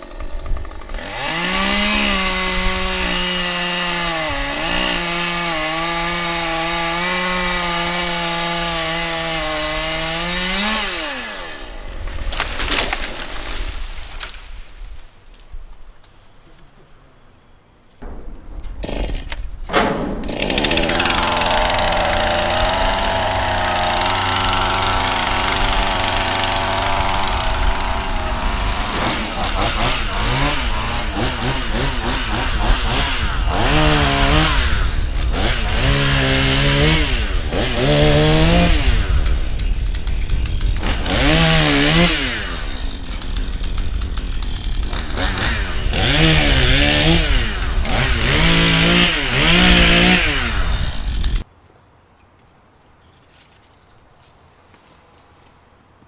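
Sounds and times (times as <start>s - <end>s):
chainsaw revving: 0.0s - 14.1s, 20.2s - 51.4s.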